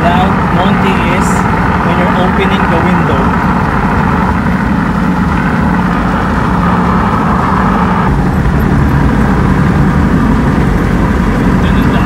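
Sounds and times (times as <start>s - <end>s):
car engine low hum: 0.0s - 12.0s
wind and road noise: 0.0s - 12.0s.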